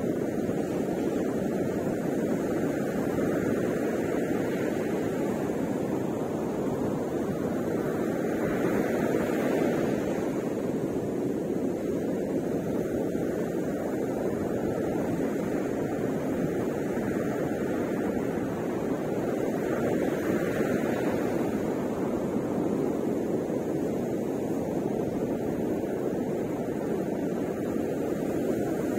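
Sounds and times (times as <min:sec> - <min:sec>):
ocean surf breaking: 0:00.0 - 0:28.9.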